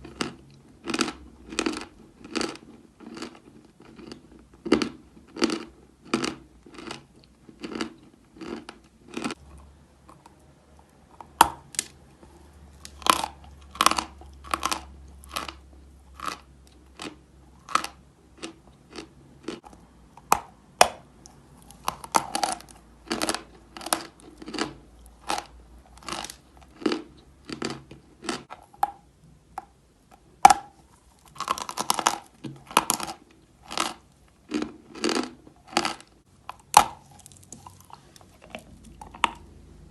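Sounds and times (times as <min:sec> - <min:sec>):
chalk crunching while chewed: 0:00.0 - 0:29.0, 0:30.4 - 0:39.6.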